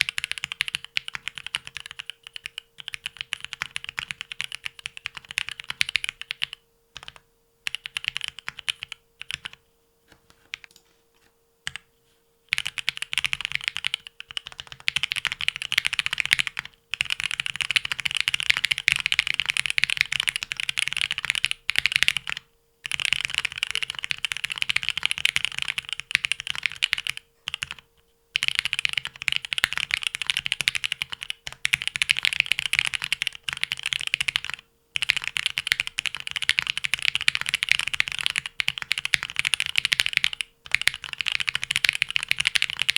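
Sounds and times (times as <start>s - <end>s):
mechanical keyboard typing: 0.0s - 9.6s, 10.3s - 10.8s, 12.5s - 42.9s.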